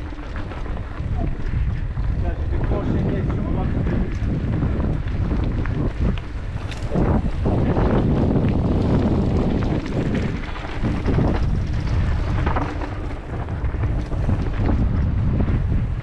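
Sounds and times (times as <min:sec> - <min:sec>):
low rumble: 0:00.0 - 0:16.0
wind buffeting microphone: 0:00.0 - 0:16.0.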